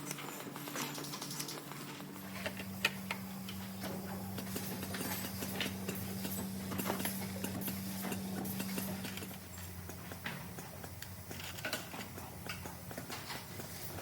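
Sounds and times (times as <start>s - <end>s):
machine hum: 0.0s - 14.0s
small parts clicking and tapping: 0.0s - 14.0s.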